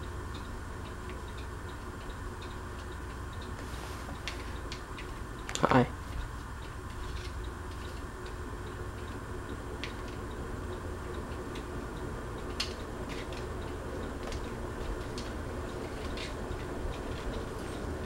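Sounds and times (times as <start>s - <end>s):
ceiling fan humming: 0.0s - 18.0s.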